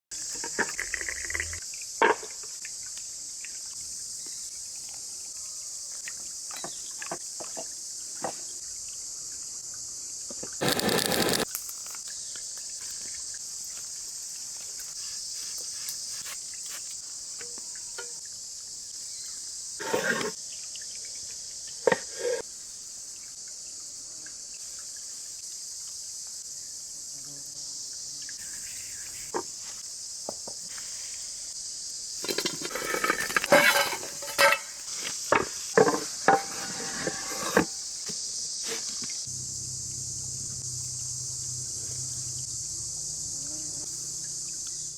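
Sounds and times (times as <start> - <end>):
high-pitched insect chorus: 0.1 - 44.9.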